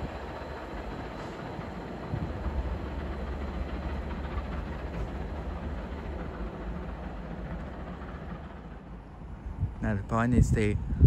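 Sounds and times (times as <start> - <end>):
train passing rumble: 0.0 - 11.0.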